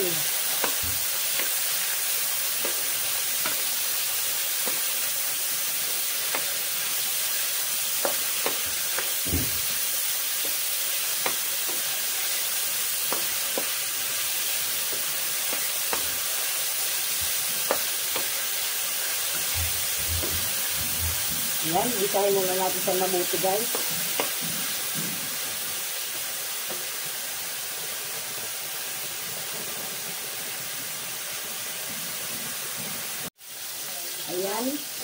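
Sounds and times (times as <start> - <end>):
chicken sizzling in oil: 0.0 - 35.0.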